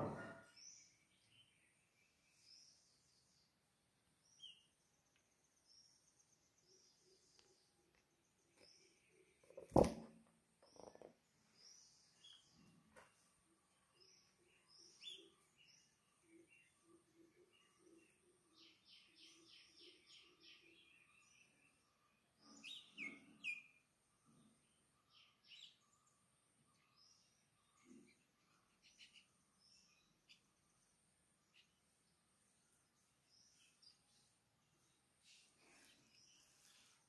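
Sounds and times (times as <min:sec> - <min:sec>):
faint bird calls and chirps: 0:04.2 - 0:09.9, 0:10.6 - 0:37.0.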